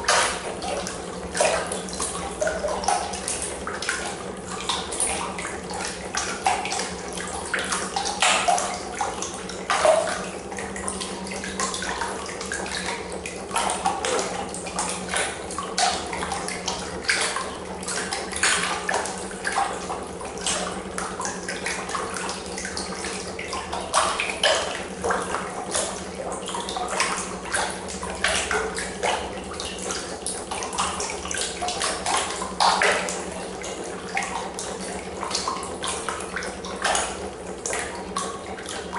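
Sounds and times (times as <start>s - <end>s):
water splashing in plastic tub: 0.0s - 38.9s.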